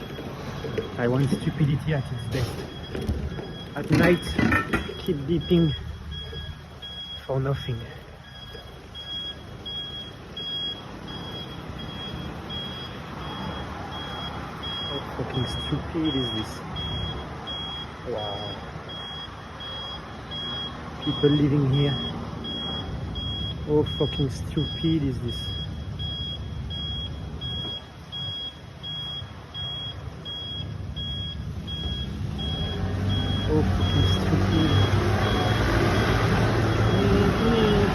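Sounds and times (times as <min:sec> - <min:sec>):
engine and traffic rumble: 0:00.0 - 0:37.9
truck warning beeper: 0:00.0 - 0:37.9.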